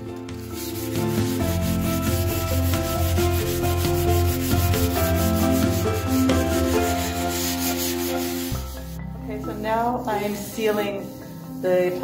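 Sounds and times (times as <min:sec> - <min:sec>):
sanding pad rubbing plaster: 0:00.5 - 0:08.9, 0:10.0 - 0:11.2.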